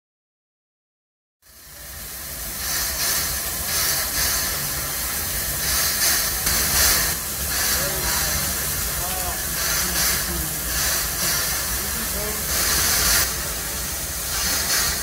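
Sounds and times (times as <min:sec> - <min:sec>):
steam locomotive hissing: 0:01.4 - 0:15.0.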